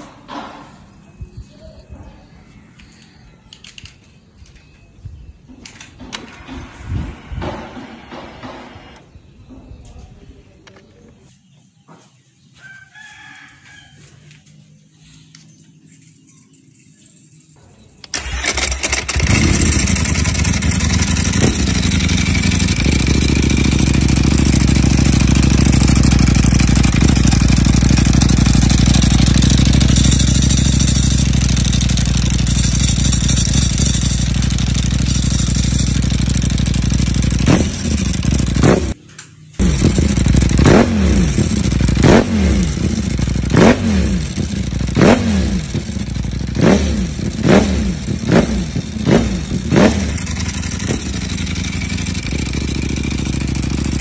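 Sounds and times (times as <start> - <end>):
motorcycle engine idling and revving: 0.0 - 11.2, 13.5 - 54.0.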